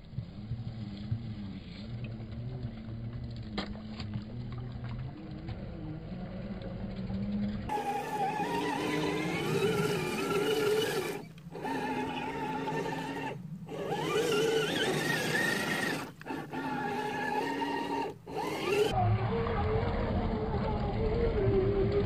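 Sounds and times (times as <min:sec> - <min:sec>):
electric motor and gears whining: 0:00.4 - 0:22.0.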